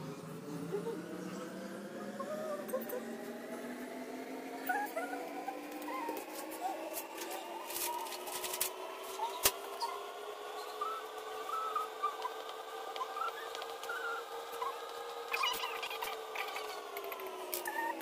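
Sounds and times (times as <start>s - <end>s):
steady multi-pitch hum: 0.0s - 18.0s.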